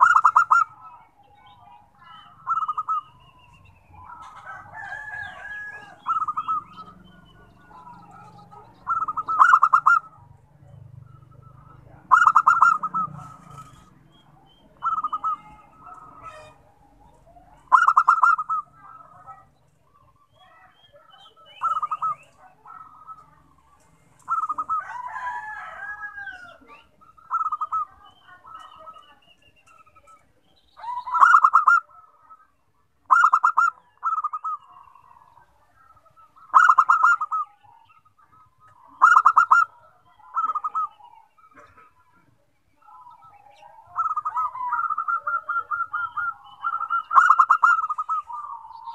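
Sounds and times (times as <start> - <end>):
dove cooing: 0.0 - 30.2, 30.8 - 32.4, 33.0 - 42.1, 42.8 - 48.9
faint bird calls: 0.0 - 48.9.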